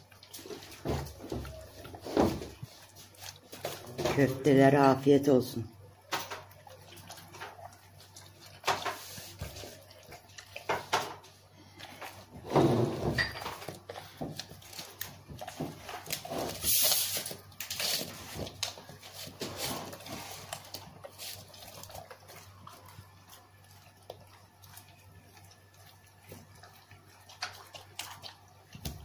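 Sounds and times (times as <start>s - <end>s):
dog chewing wetly: 0.0s - 29.0s.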